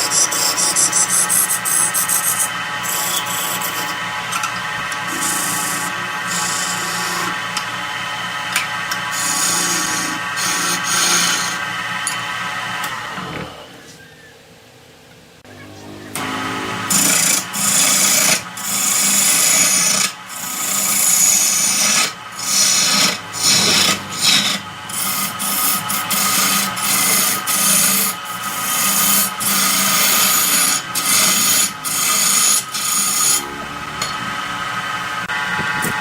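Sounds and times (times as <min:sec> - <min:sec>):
tool scraping spinning wood: 0:00.0 - 0:07.8, 0:08.5 - 0:12.2, 0:15.8 - 0:36.0
wood lathe motor hum: 0:00.0 - 0:13.6, 0:15.7 - 0:36.0.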